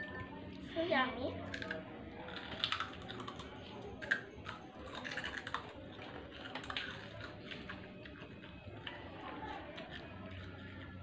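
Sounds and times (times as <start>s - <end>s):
crackers crunching while chewed: 1.4s - 11.0s.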